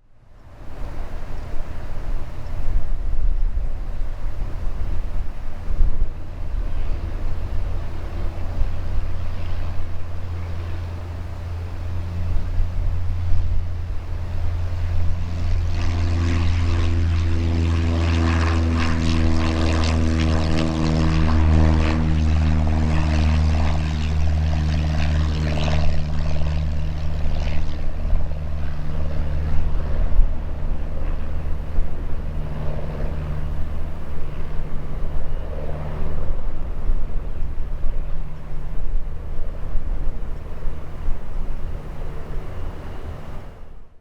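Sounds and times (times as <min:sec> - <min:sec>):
propeller plane droning: 0:00.0 - 0:44.0.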